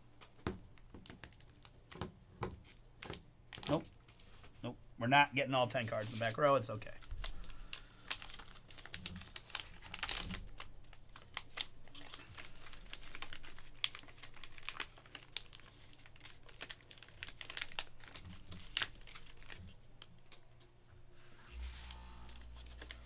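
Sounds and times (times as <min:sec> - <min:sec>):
plastic crinkling: 0:00.3 - 0:04.7, 0:05.7 - 0:20.6, 0:21.5 - 0:23.0.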